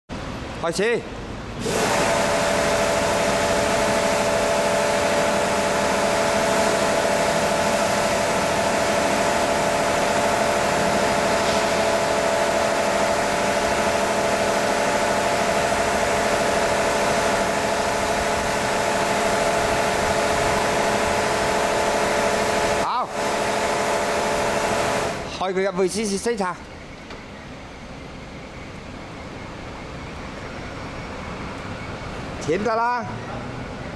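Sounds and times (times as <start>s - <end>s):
car wash machine humming: 0.1s - 33.9s.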